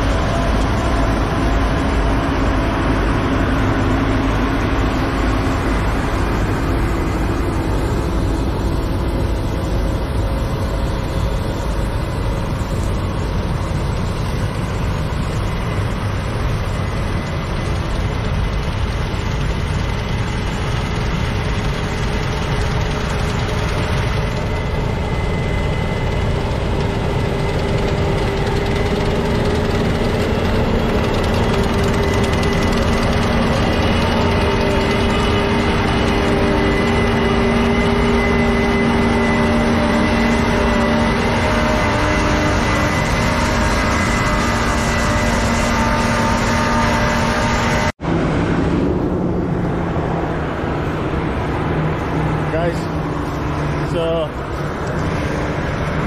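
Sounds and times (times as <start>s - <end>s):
combine harvester drone: 0.0s - 56.0s
humming tone: 0.0s - 56.0s.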